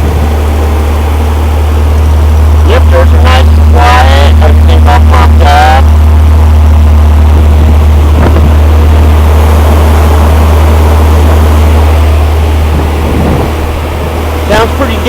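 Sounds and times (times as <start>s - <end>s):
air-cooled engine running loud: 0.0s - 15.0s.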